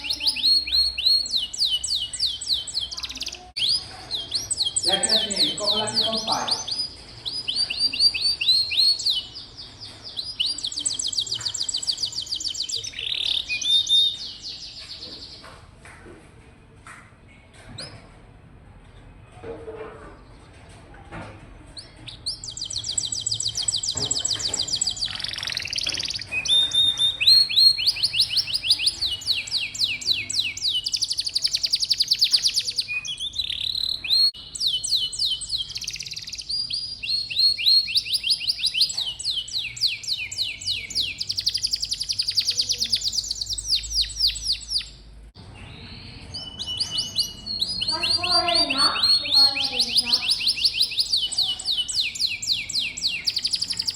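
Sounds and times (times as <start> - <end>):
canary singing trills: 0.0 - 15.4, 21.7 - 53.9.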